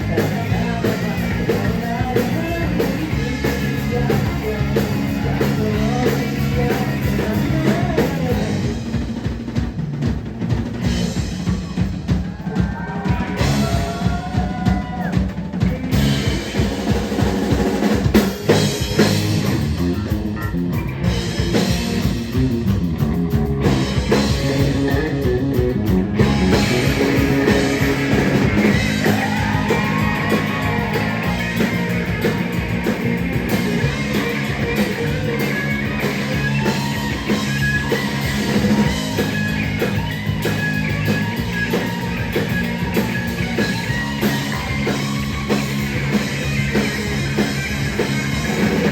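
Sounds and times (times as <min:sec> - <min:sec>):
drum kit beat: 0:00.0 - 0:48.9
guitar: 0:00.0 - 0:48.9.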